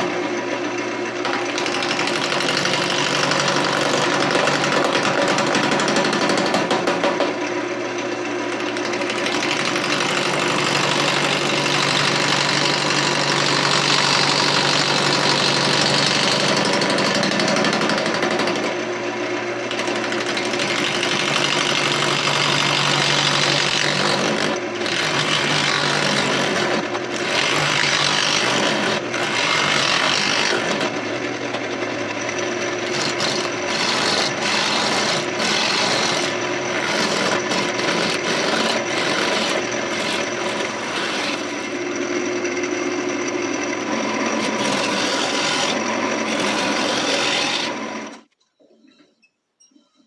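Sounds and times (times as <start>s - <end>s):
lathe motor hum: 0.0s - 5.8s, 7.4s - 48.2s
gouge scraping spinning log: 1.2s - 6.6s, 8.5s - 18.7s, 19.7s - 42.4s, 43.6s - 48.3s.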